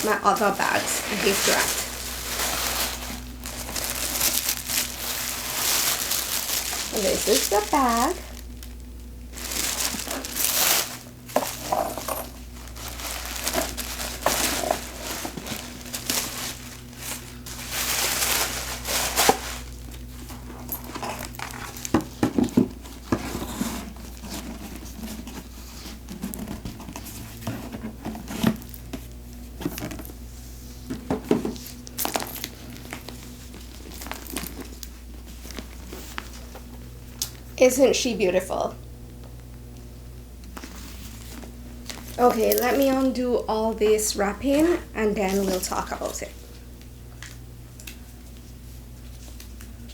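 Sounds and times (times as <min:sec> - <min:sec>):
gift wrapping crinkling: 0:00.0 - 0:30.3, 0:31.5 - 0:37.5, 0:40.4 - 0:46.4
faint low hum: 0:00.0 - 0:49.9.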